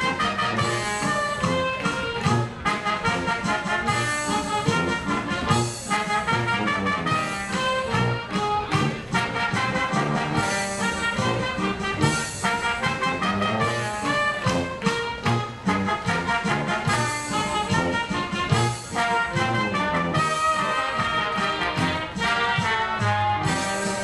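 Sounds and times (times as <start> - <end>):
oom-pah brass band music: 0.0 - 24.0.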